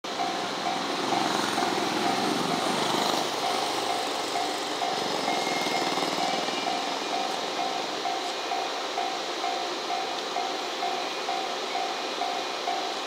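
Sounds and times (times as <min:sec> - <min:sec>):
railway warning bell ringing: 0:00.0 - 0:13.0
slow train rumble: 0:00.0 - 0:13.0.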